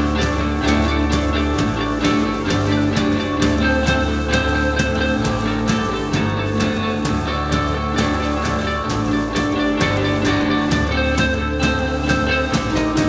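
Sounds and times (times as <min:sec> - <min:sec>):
drum kit beat: 0:00.0 - 0:13.0
electric bass: 0:00.0 - 0:13.0
electric guitars: 0:00.0 - 0:13.0.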